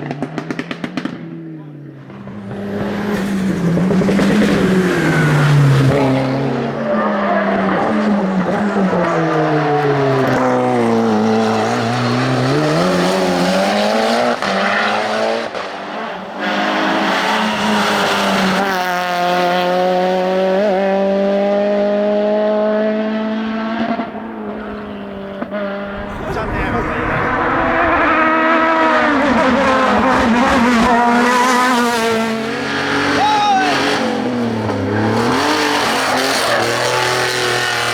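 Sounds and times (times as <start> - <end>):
race car engine revving: 0.0 - 37.9.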